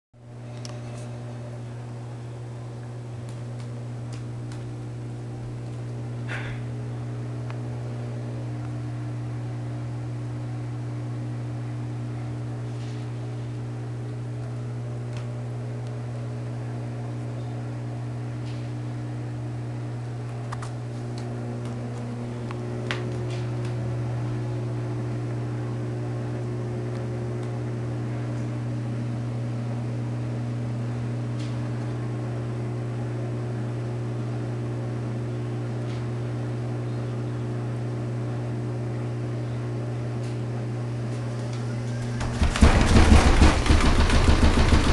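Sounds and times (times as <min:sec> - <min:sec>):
washing machine humming: 0:00.2 - 0:44.9.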